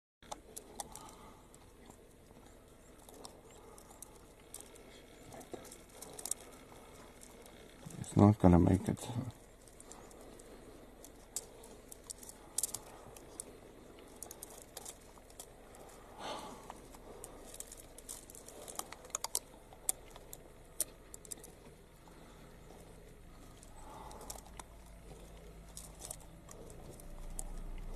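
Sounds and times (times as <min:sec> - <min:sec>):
animal chewing and crunching bones: 0:00.2 - 0:27.9.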